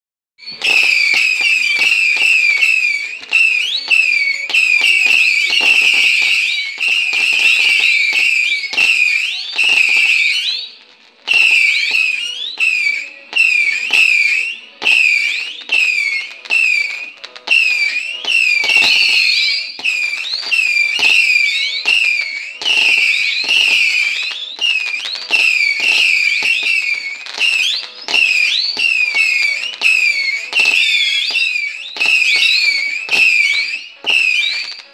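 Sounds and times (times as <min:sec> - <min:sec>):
firework pops: 0:00.4 - 0:34.9
firework whistling shots: 0:00.4 - 0:34.9.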